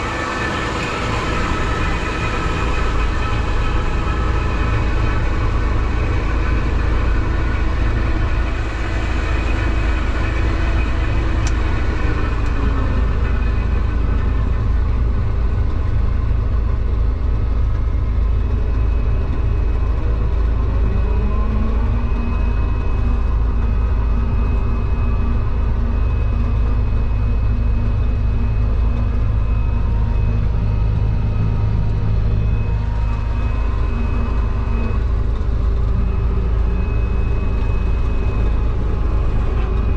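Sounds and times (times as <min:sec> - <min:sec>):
combine harvester engine drone: 0:00.0 - 0:39.9
whining machinery tones: 0:00.0 - 0:39.9.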